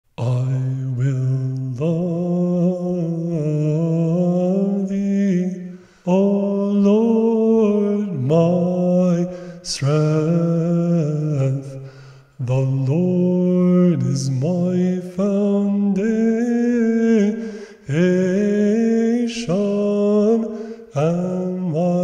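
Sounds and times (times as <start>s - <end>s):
men chanting a hymn: 0.2s - 22.0s.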